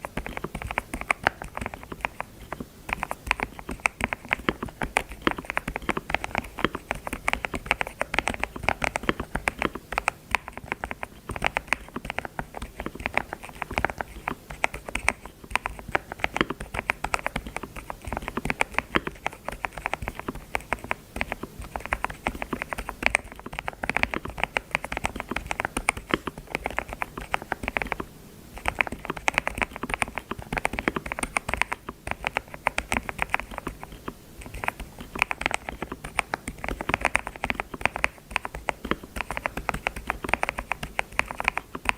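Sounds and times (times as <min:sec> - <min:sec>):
keyboard typing: 0:00.0 - 0:41.9.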